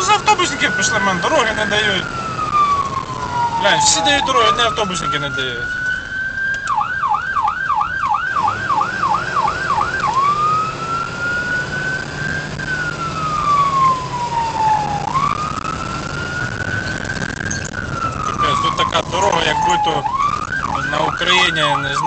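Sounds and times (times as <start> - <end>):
ambulance siren: 0.0 - 22.0.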